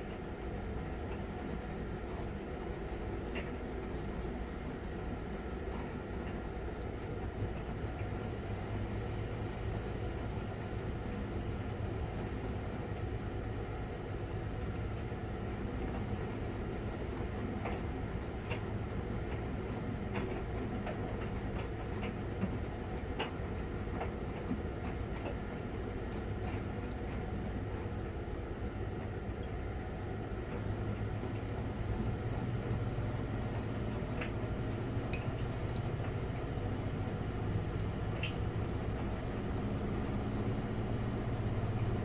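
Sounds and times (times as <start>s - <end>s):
washing machine humming: 2.4s - 42.0s.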